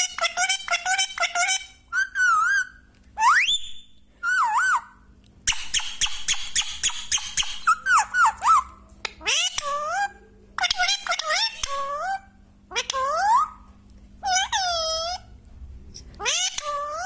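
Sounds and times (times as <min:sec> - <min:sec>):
parrot chirping and warbling: 0:00.0 - 0:15.3, 0:16.0 - 0:17.0.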